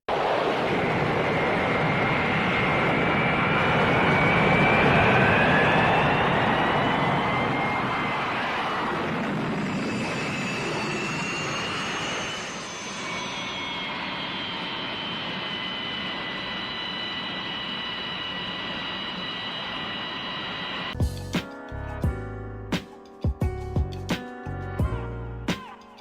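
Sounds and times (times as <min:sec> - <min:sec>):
jet engines whining: 0:00.1 - 0:21.0.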